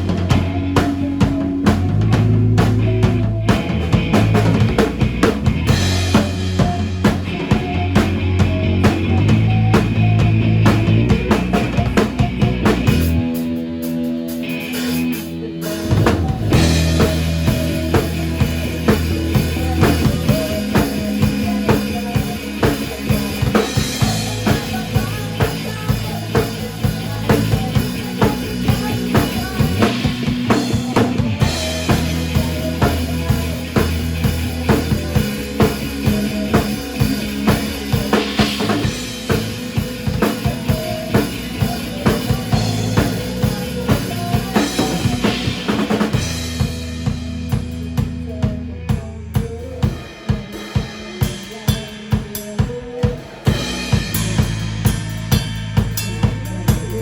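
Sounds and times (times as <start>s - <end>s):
band music: 0.0s - 57.0s.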